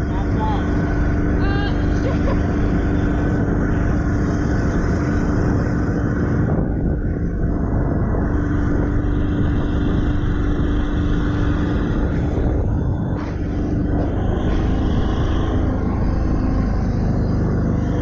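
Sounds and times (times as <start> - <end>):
jet boat engine droning: 0.0 - 18.0.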